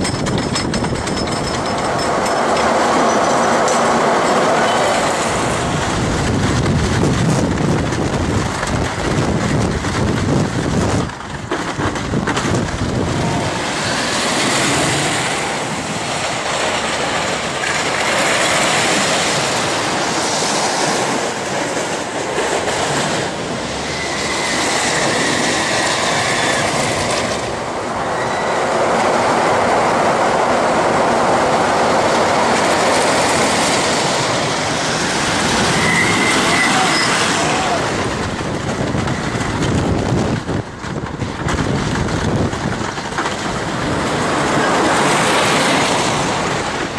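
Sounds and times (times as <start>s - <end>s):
roller coaster rattling on track: 0.0s - 46.9s.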